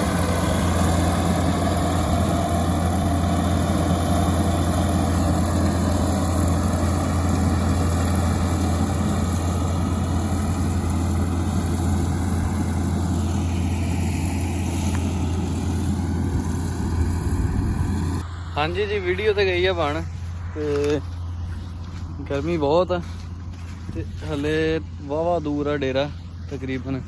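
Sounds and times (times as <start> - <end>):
heavy machinery engine running: 0.0 - 27.0.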